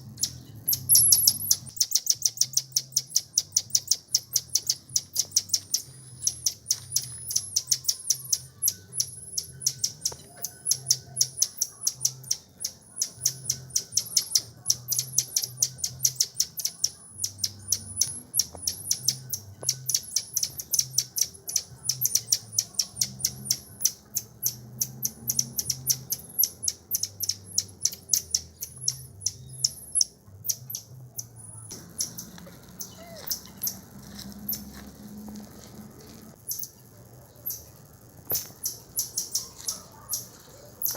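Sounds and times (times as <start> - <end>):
animal chirping: 0.2 - 33.9, 38.3 - 40.9.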